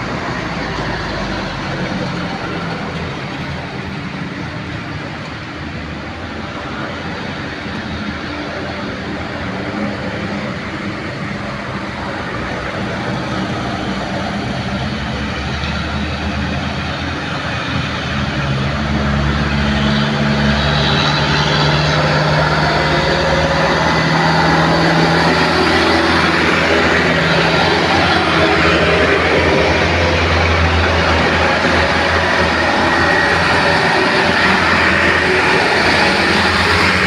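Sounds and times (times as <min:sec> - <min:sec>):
road noise: 0:00.0 - 0:37.0
truck diesel engine droning: 0:00.0 - 0:37.0.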